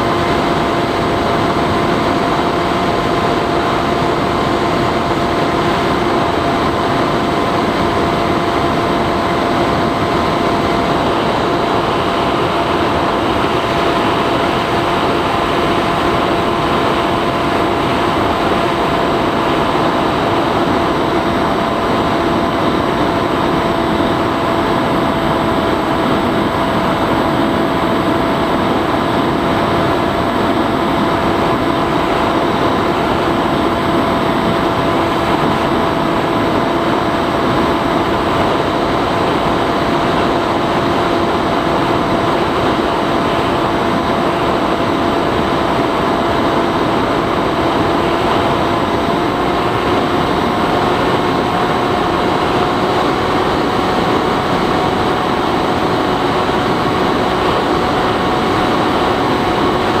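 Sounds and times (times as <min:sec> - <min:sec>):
model plane motor droning: 0:00.0 - 1:00.0.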